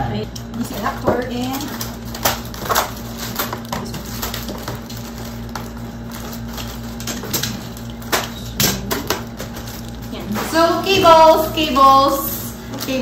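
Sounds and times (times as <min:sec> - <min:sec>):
steady low hum: 0:00.0 - 0:13.0
plastic packaging crinkling: 0:00.5 - 0:13.0.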